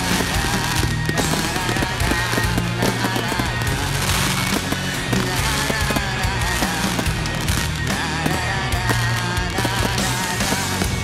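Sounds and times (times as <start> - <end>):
fireworks bangs and crackles: 0.0 - 11.0
song playing: 0.0 - 11.0.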